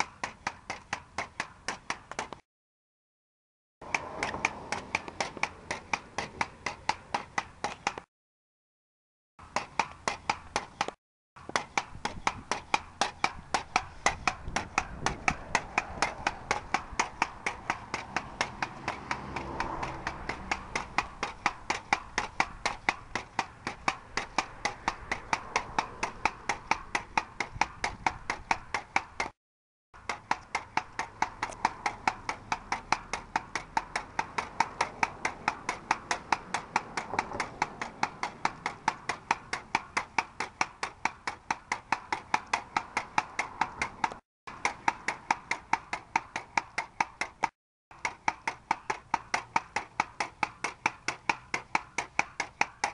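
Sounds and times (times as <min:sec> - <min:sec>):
pogo stick clanking: 0:00.0 - 0:02.4, 0:03.8 - 0:08.1, 0:09.4 - 0:29.4, 0:30.0 - 0:52.9.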